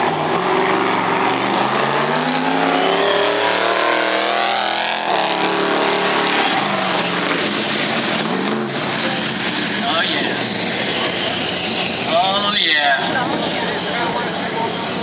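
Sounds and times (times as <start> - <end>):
truck engine passing by: 0.0 - 15.0.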